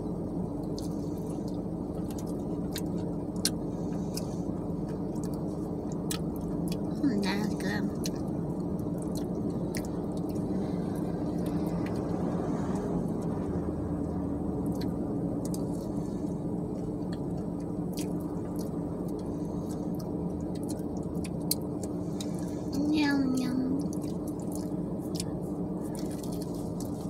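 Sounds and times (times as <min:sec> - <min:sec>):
low hum inside car: 0:00.0 - 0:27.0
person chewing food: 0:00.6 - 0:06.9, 0:08.0 - 0:12.8, 0:14.6 - 0:22.5, 0:23.8 - 0:27.0.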